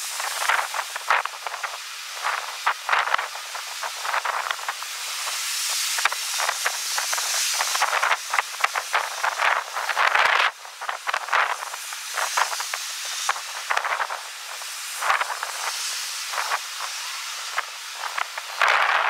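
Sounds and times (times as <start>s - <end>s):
strong wind on microphone: 0.0s - 4.8s, 6.0s - 19.0s.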